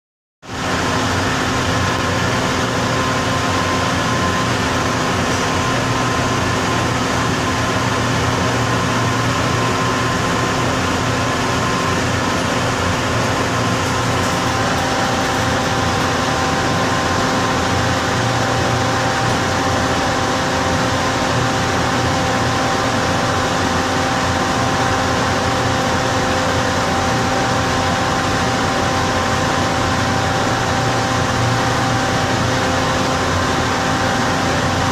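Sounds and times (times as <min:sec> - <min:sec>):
ventilation fan rushing air: 0:00.4 - 0:34.9.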